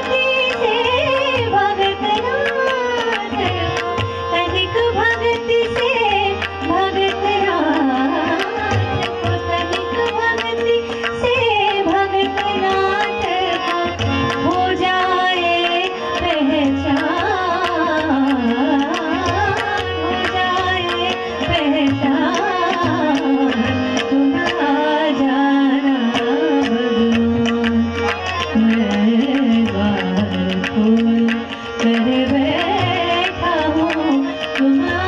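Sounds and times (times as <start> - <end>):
tabla strokes: 0.0 - 35.0
tanpura drone: 0.0 - 35.0
woman singing: 0.0 - 35.0.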